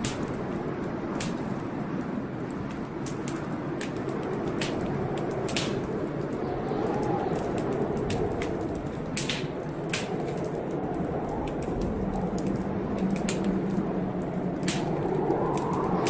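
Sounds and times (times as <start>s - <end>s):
rain rushing: 0.0s - 16.0s
wood fire crackling and popping: 0.0s - 16.0s.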